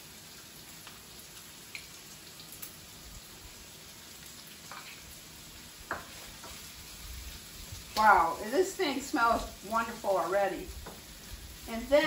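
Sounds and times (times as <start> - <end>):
onions sizzling in oil: 0.0 - 12.0
oil crackles: 0.2 - 12.0.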